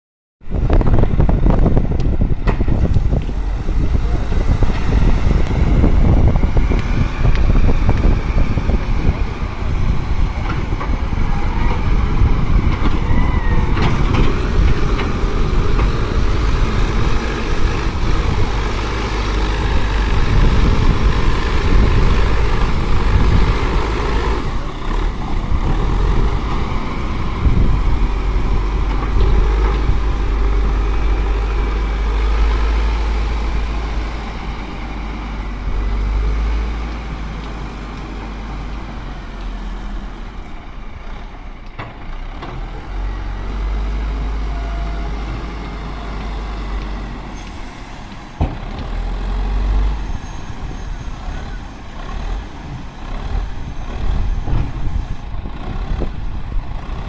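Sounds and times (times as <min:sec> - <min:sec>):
wheel loader diesel engine: 0:00.4 - 0:57.0.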